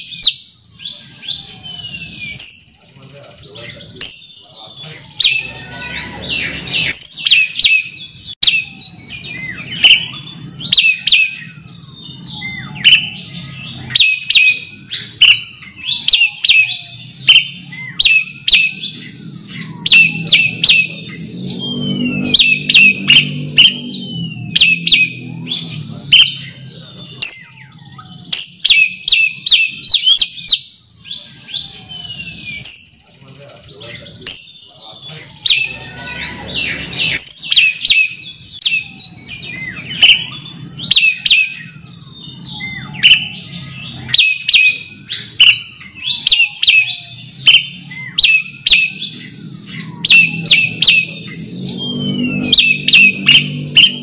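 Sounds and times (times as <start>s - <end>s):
bird whistles and chirps: 0.0s - 54.0s.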